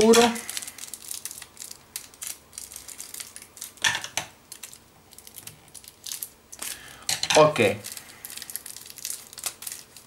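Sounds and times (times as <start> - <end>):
paper and card crinkling: 0.0 - 3.9, 4.5 - 6.8, 7.4 - 10.0
crackles: 0.0 - 6.9, 7.6 - 10.0.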